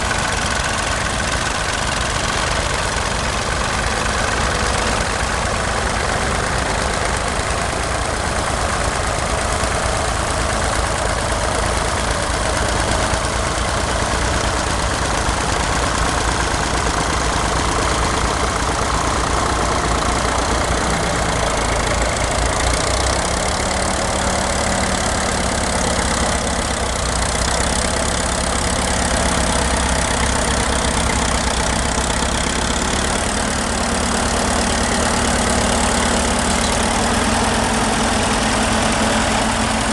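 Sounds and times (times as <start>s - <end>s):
tractor engines running under load: 0.0s - 39.9s.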